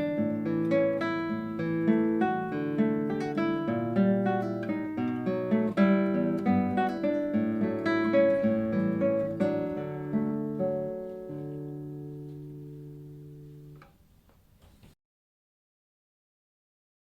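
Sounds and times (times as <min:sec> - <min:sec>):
classical guitar playing: 0:00.0 - 0:14.0.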